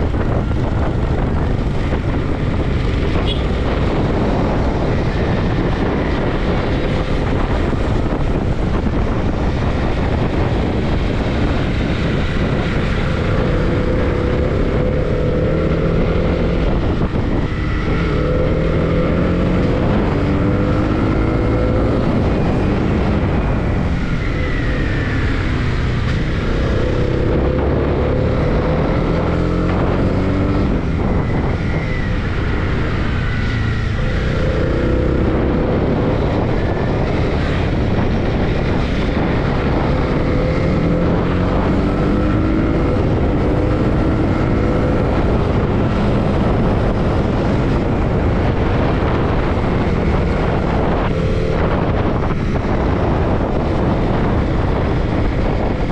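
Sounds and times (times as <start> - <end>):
motorcycle engine revving: 0.0 - 55.9
wind rushing past microphone: 0.0 - 55.9.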